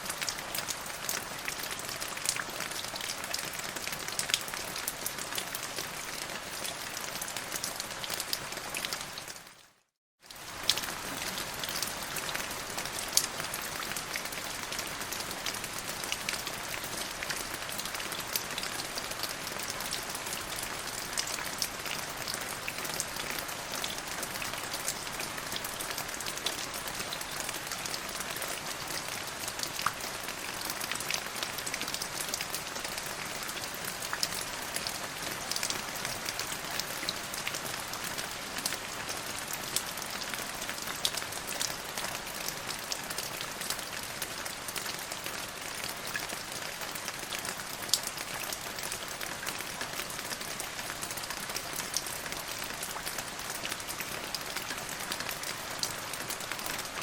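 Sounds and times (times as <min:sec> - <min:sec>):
steady rain falling: 0:00.0 - 0:57.0
raindrops ticking on a surface: 0:00.1 - 0:57.0.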